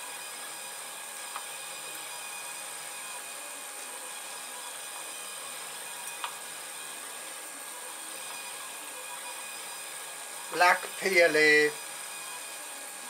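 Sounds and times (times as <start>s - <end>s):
three-d printer motors whirring: 0.0s - 13.0s.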